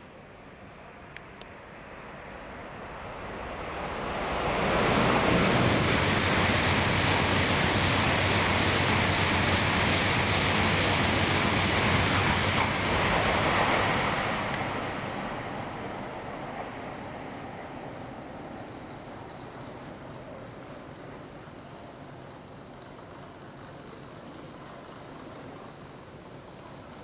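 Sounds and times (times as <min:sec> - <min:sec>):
high-speed train passing: 0:00.0 - 0:27.0.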